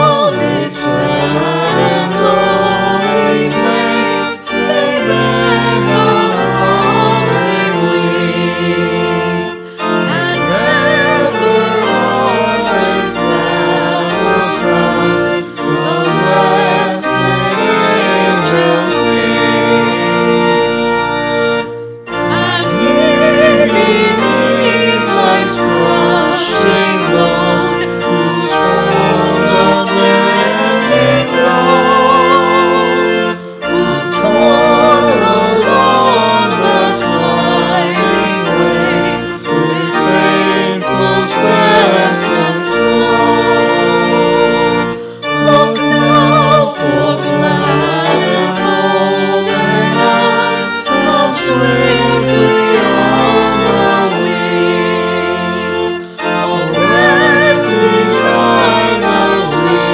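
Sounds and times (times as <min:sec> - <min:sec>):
organ chords: 0:00.0 - 0:59.9
person singing a hymn with vibrato: 0:00.0 - 0:59.9.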